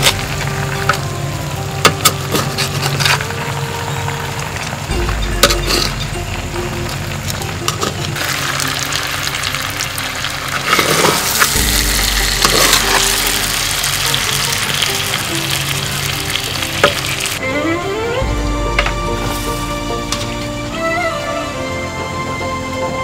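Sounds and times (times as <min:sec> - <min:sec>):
fish and vegetables sizzling in oil: 0:00.0 - 0:17.4, 0:18.3 - 0:20.8.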